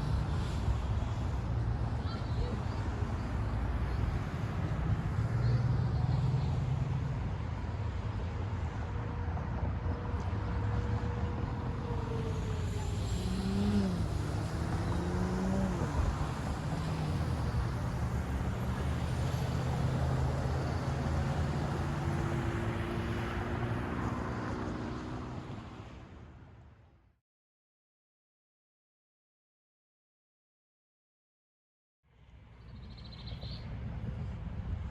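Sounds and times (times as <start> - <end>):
cars and trucks passing: 0.0 - 27.0, 32.1 - 34.9.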